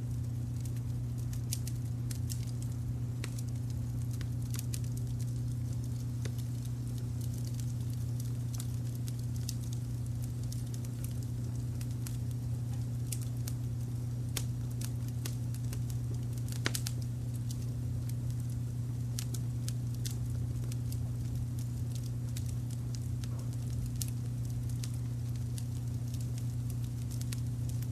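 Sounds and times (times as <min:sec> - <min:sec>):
low brown noise: 0:00.0 - 0:27.9
wood fire crackling and popping: 0:00.0 - 0:27.9.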